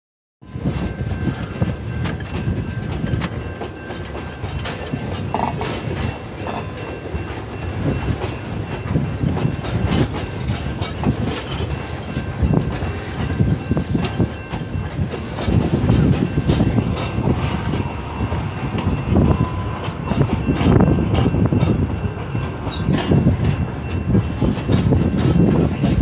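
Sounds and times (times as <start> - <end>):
freight train rumbling: 0.4 - 26.0
wheels clacking over rails: 0.6 - 26.0.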